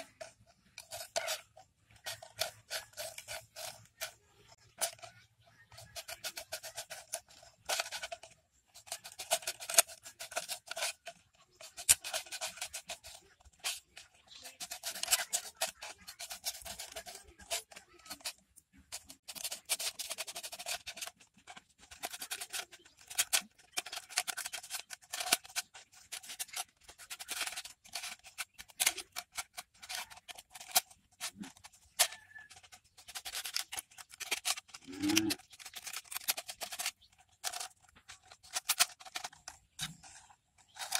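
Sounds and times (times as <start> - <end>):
scissors cutting plastic bottle: 0.0 - 40.9.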